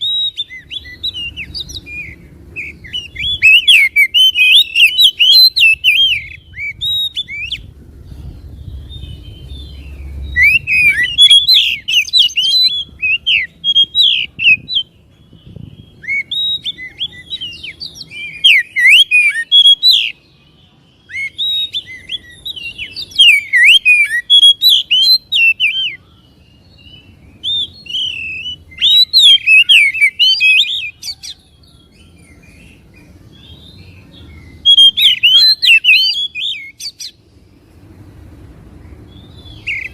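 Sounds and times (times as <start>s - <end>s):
bird singing whistled notes: 0.0s - 37.8s, 38.8s - 39.9s.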